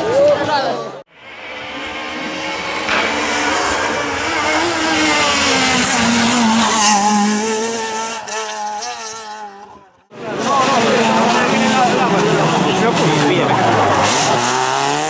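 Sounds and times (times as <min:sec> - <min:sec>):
rally car engine passing by: 0:01.2 - 0:15.0.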